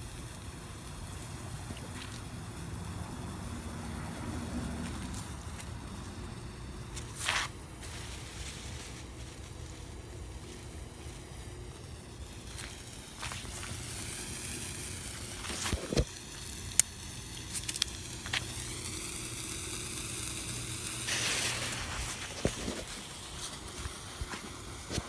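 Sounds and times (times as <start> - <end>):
firework hissing sizzle: 0.0 - 25.0
firework pops and crackles: 4.7 - 25.0.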